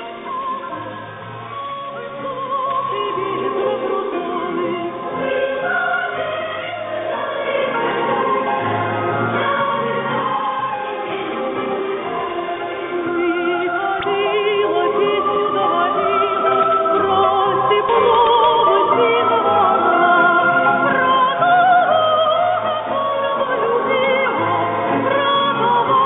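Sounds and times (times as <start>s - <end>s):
operatic singing over shortwave radio: 0.0s - 26.0s.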